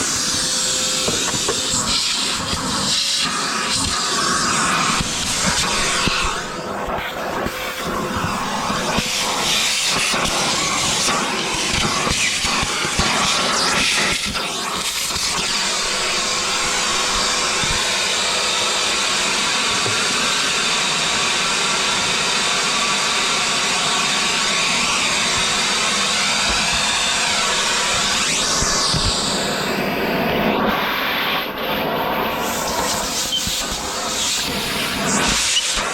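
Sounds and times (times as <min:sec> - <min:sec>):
air blowing from vacuum: 0:00.0 - 0:35.9.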